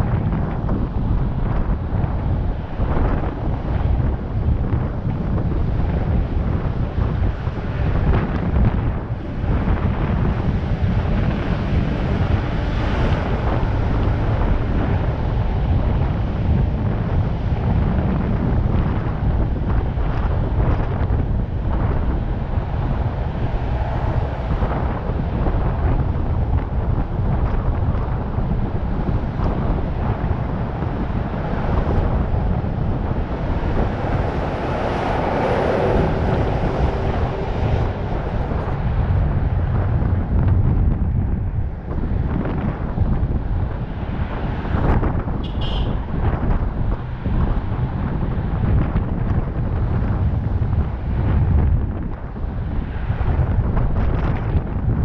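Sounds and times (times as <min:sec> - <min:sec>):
road and traffic noise: 0:00.0 - 0:55.0
wind buffeting microphone: 0:00.0 - 0:55.0.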